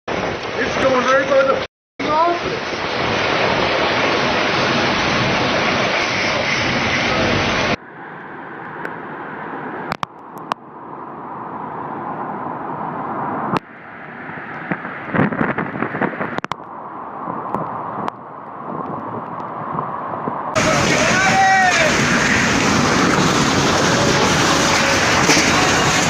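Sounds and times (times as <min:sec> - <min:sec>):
strong storm wind rushing: 0:00.1 - 0:26.0.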